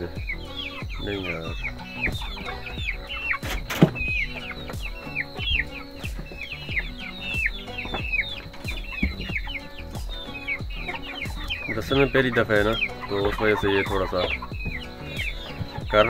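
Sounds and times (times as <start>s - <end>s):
chickens peeping: 0.0s - 16.0s.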